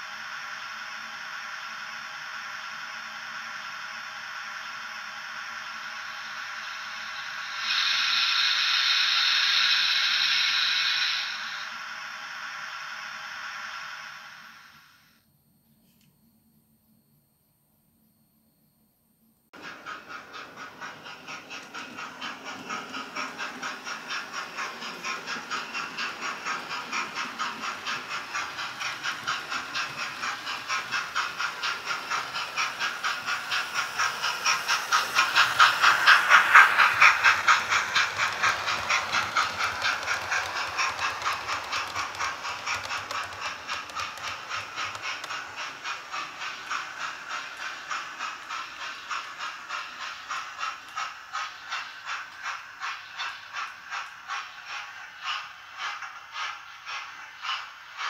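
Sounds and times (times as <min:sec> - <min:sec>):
recorded steam engine chuffs: 0:00.0 - 0:15.2, 0:19.6 - 0:58.0.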